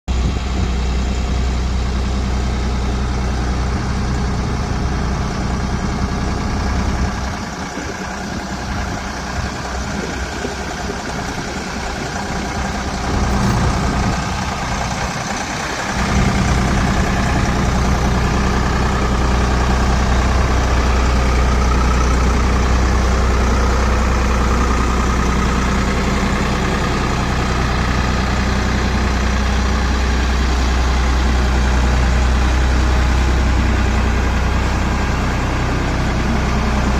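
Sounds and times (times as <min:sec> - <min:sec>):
diesel engine droning: 0:00.1 - 0:36.9.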